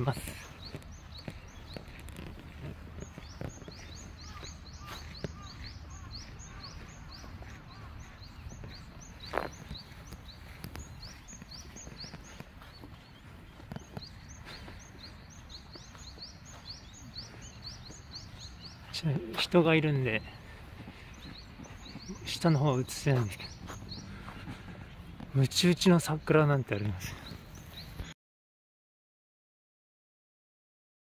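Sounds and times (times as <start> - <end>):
small bird chirping: 0.0 - 28.1
open-air background noise: 0.0 - 28.2.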